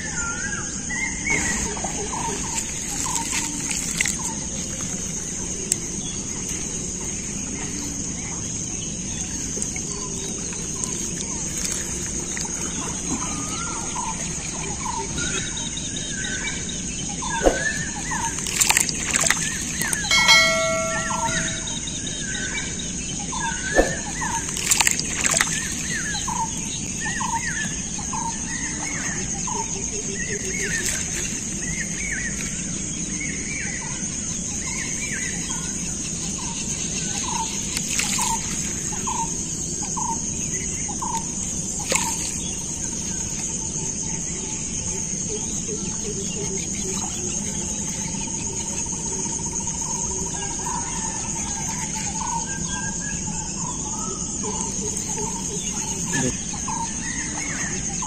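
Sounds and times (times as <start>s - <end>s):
high buzz of insects: 0.0s - 58.0s.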